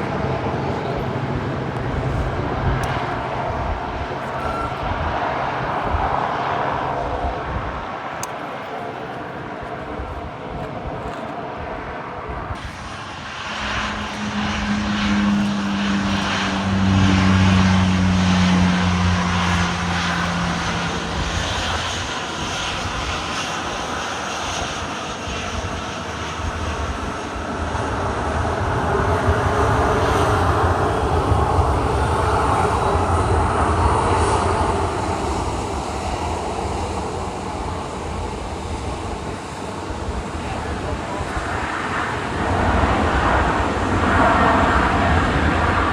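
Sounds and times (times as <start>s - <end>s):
jet airliner engines roaring: 0.0s - 45.9s.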